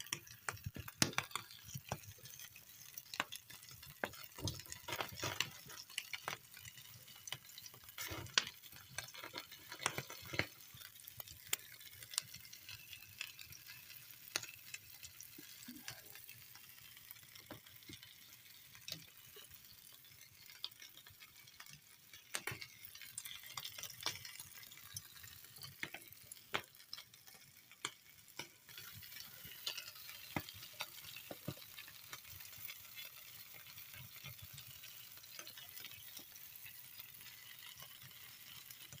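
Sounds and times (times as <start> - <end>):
fire crackling and popping: 0.0 - 39.0
meat sizzling: 0.0 - 39.0.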